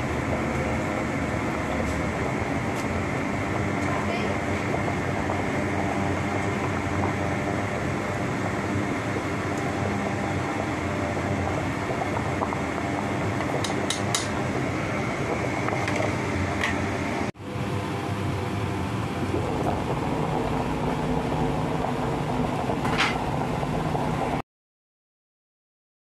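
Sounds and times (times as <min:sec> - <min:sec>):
pot of soup boiling: 0:00.0 - 0:24.4
steady rumbling hum: 0:00.0 - 0:24.4.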